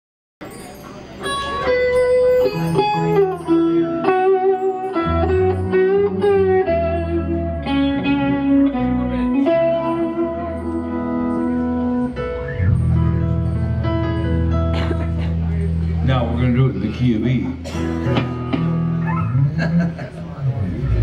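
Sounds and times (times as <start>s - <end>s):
live band playing: 0.4s - 21.0s.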